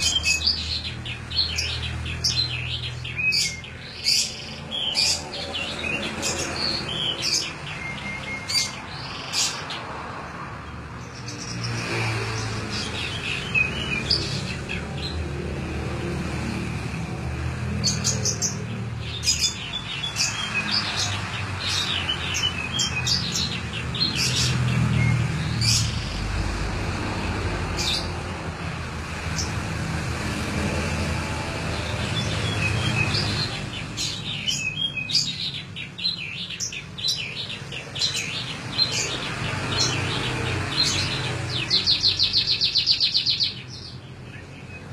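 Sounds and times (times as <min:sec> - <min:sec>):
canary singing: 0:00.0 - 0:10.1, 0:10.9 - 0:15.6, 0:17.0 - 0:26.4, 0:30.5 - 0:44.9.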